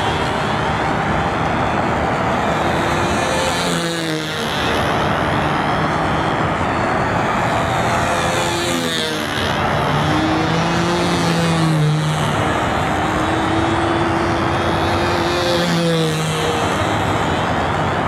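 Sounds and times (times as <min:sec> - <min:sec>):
model airplane engine: 0:00.0 - 0:18.0.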